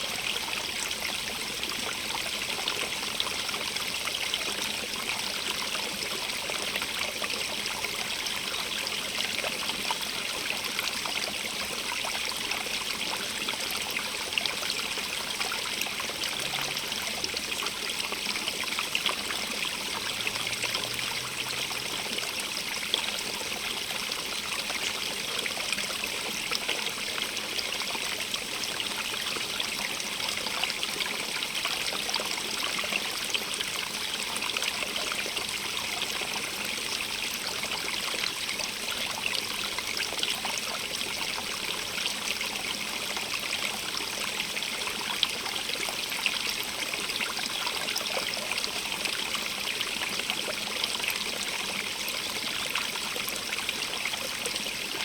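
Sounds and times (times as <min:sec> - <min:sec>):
stream trickling over stones: 0:00.0 - 0:55.0.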